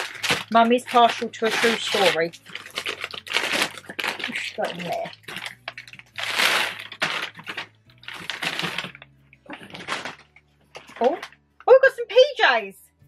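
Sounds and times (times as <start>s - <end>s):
wrapping paper crinkling and tearing: 0.0s - 11.4s.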